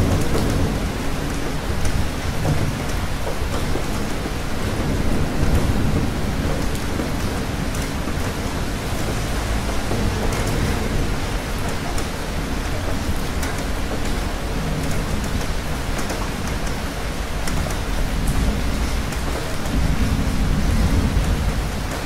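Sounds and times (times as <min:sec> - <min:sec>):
low rumble of thunder: 0:00.0 - 0:13.4, 0:17.2 - 0:22.0
steady rain falling: 0:00.0 - 0:22.0.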